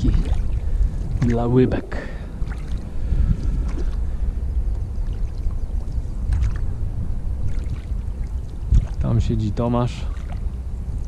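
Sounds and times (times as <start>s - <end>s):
boat motor rumble: 0.0s - 11.0s
light water splashes: 0.0s - 11.0s.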